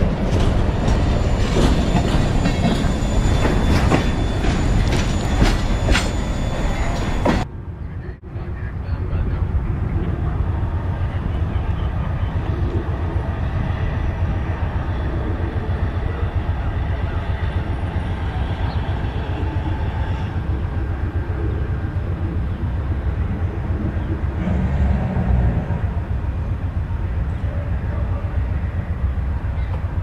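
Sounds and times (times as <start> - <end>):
train rumbling by: 0.0 - 30.0.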